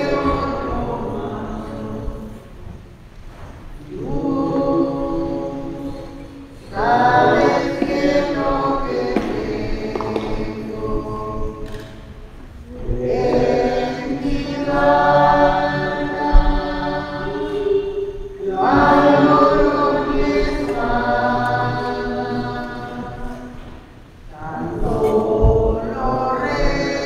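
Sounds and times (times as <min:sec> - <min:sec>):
church choir singing a hymn: 0:00.0 - 0:27.0.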